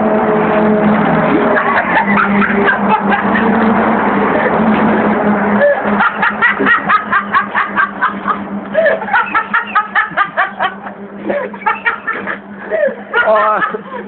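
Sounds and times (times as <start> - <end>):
rushing noise: 0.0 - 13.2
low hum: 0.0 - 14.0
person laughing hard: 1.4 - 4.6, 5.5 - 14.0.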